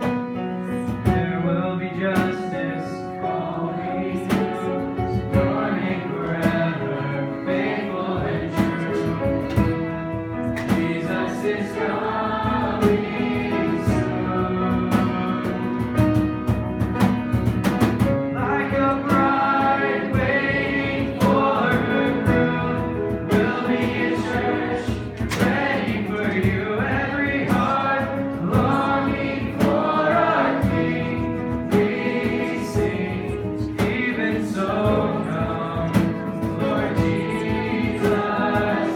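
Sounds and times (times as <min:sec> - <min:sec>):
band playing worship music: 0:00.0 - 0:38.9
group of voices singing: 0:00.8 - 0:16.1, 0:18.3 - 0:38.9.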